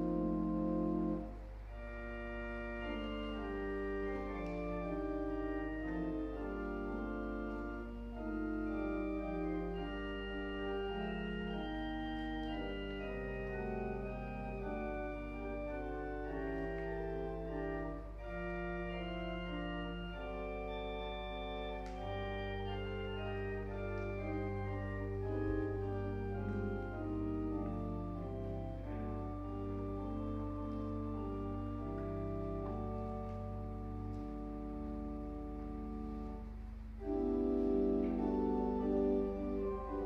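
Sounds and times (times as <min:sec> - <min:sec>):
organ playing slow chords: 0:00.0 - 0:40.0.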